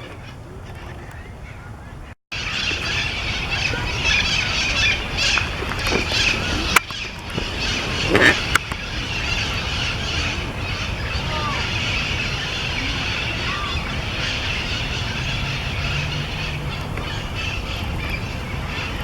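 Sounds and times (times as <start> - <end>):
parakeets chattering and squawking: 0.0 - 19.0.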